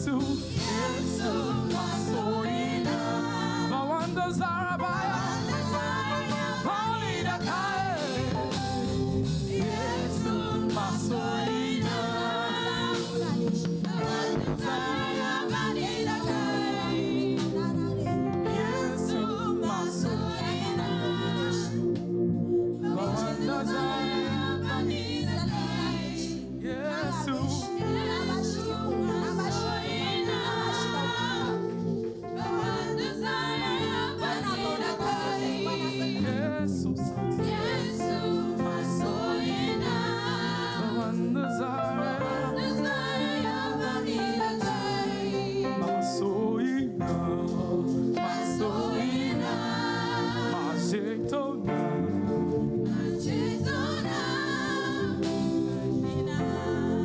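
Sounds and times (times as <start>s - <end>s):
band accompaniment with bass: 0.0s - 57.0s
choir and congregation singing: 0.0s - 57.0s.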